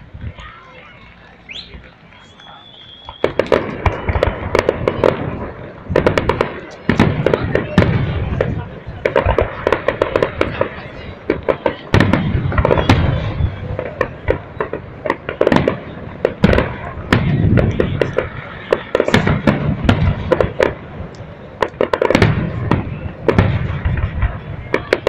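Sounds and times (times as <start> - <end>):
deep fireworks booms: 0.0 - 25.0
fireworks bangs and crackles: 0.0 - 25.0.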